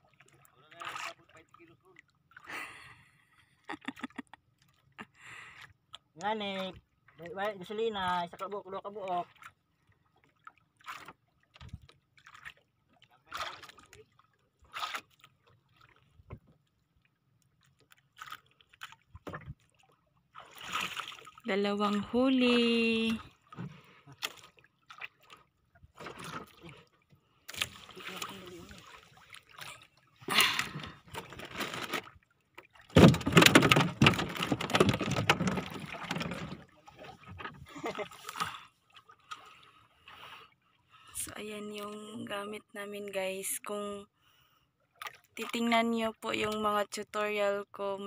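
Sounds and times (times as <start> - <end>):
water splashes: 0.0 - 42.3, 44.8 - 46.6.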